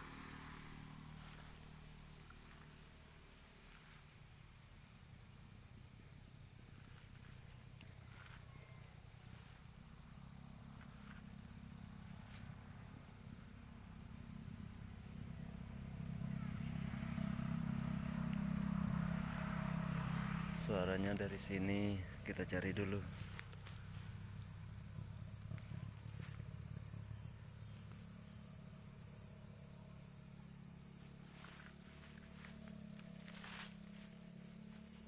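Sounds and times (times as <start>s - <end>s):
grasshopper calling: 0.0s - 35.0s.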